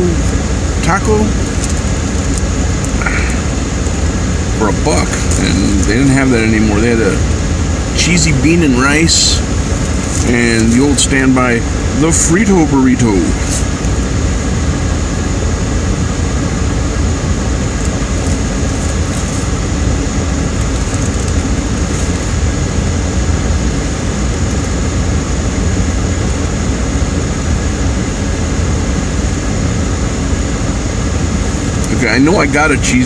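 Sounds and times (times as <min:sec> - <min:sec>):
car idling with air-conditioning: 0:00.0 - 0:33.0.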